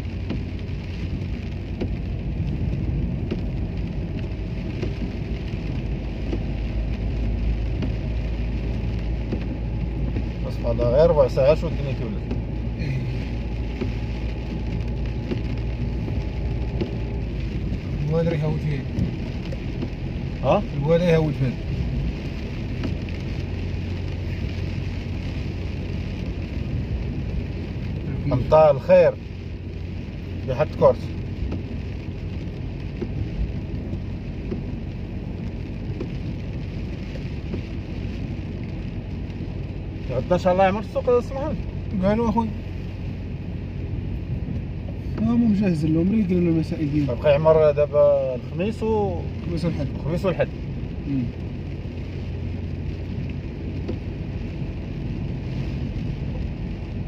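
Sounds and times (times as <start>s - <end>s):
engine and road noise: 0.0s - 57.0s
heavy rain on car roof: 0.0s - 57.0s
raindrops ticking: 0.0s - 57.0s.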